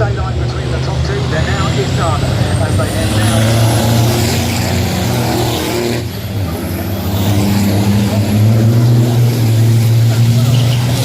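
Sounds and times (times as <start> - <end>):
racing truck engines droning: 0.0 - 11.0.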